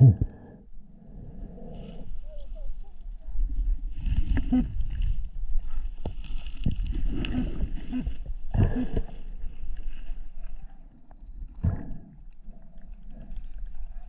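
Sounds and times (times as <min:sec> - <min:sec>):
muffled water rumble: 0:01.2 - 0:14.0.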